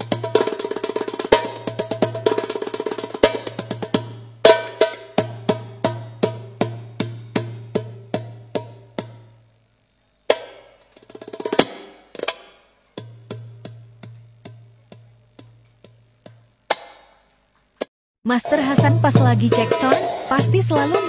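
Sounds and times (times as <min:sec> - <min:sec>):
darbuka strokes: 0:00.0 - 0:09.4, 0:10.3 - 0:17.9.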